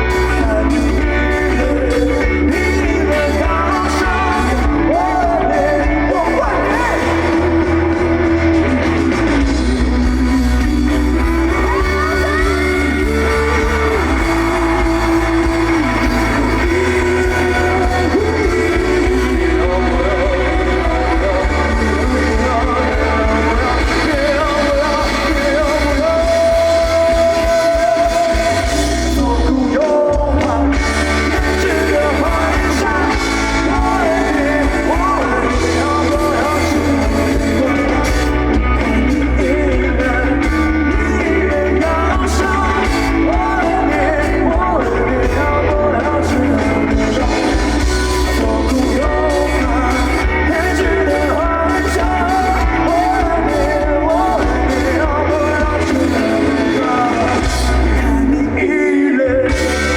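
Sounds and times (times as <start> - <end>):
bass guitar: 0.0 - 59.9
drums: 0.0 - 59.9
guitars: 0.0 - 59.9
person singing: 0.0 - 59.9.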